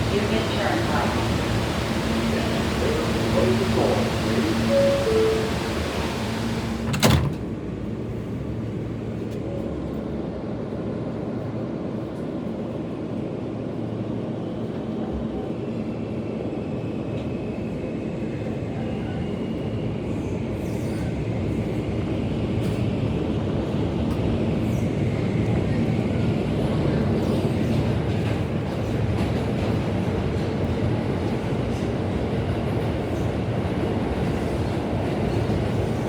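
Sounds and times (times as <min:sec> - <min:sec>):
subway wheels rumbling on rails: 0:00.0 - 0:36.0.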